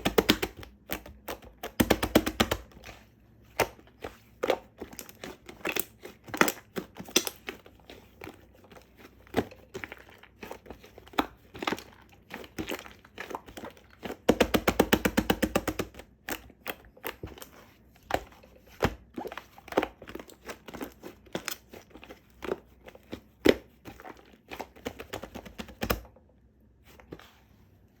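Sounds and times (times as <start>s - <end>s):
cookie crunching and crinkling: 0.0s - 26.0s.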